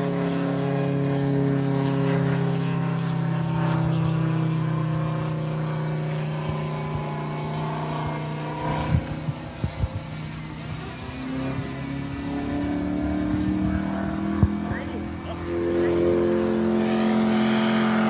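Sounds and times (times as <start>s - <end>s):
model airplane engine running: 0.0s - 18.0s.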